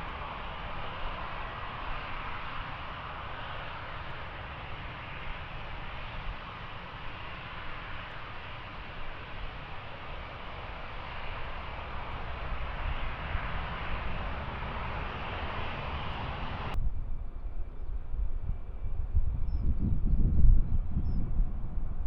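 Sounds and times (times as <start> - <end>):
jet engines rushing: 0.0 - 22.0
wind rumble on microphone: 0.0 - 22.0.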